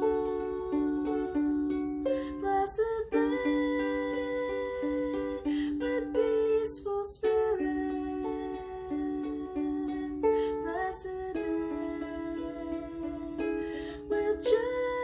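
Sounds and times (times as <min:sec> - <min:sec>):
ukulele melody: 0:00.0 - 0:15.0.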